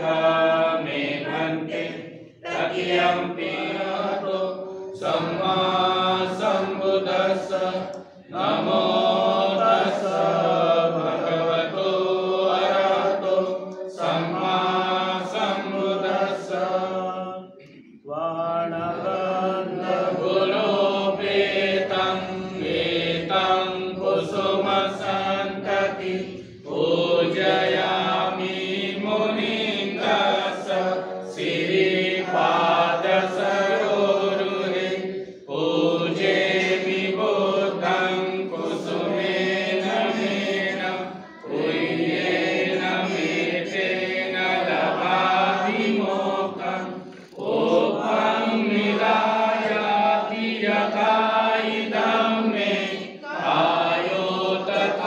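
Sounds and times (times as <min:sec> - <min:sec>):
devotional chanting: 0:00.0 - 0:55.0.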